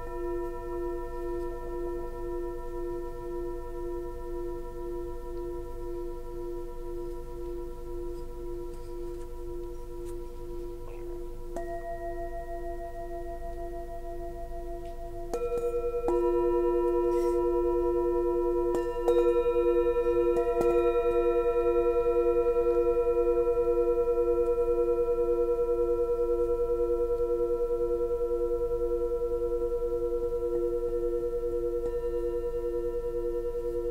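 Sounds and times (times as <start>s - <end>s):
singing bowls ringing: 0.0s - 33.9s.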